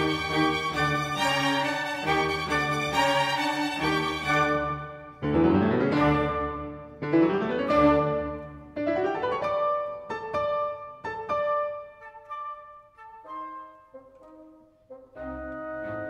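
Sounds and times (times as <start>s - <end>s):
piano and strings music: 0.0s - 16.0s.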